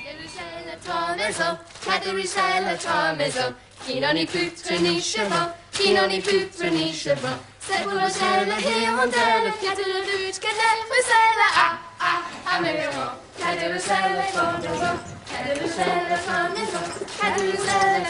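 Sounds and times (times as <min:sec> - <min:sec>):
group singing together: 0:00.0 - 0:18.0.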